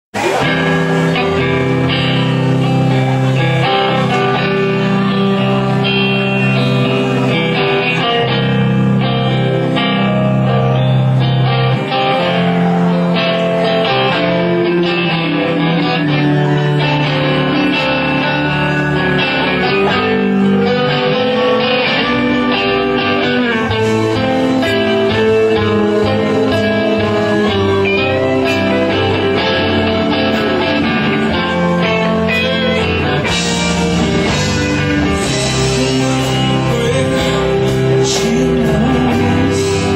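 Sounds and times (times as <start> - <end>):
band playing with guitar: 0.0 - 39.9.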